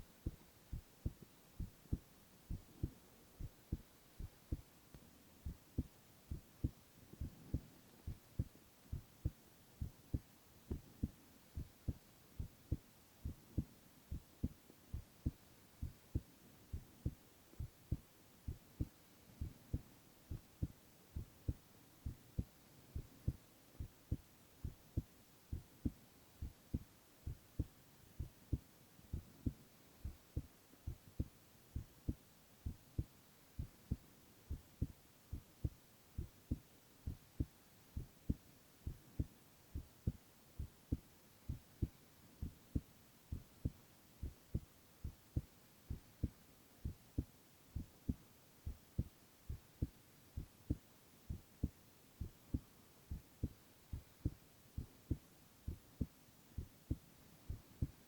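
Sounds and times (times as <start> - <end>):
heartbeat thumps: 0.0 - 4.7, 5.4 - 58.0
faint hiss: 0.0 - 58.0.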